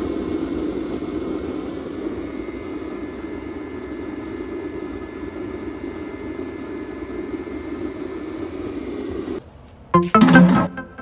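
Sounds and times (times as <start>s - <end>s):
stove flame rushing: 0.0s - 9.4s.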